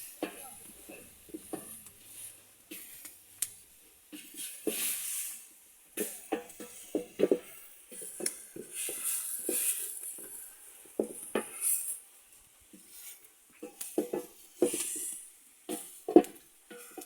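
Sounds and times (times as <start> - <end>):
scraping hiss: 0.0 - 17.0.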